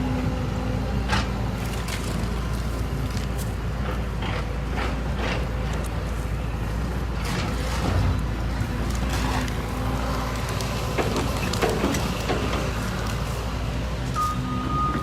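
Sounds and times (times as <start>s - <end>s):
excavator engine running: 0.0s - 15.0s
debris knocking and scraping: 1.5s - 15.0s.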